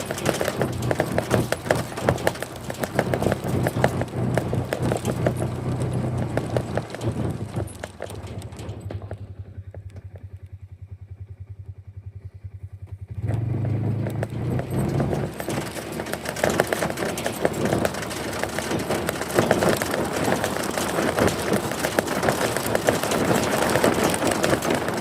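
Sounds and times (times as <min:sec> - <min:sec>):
vehicle engine idling and revving: 0:00.0 - 0:25.0.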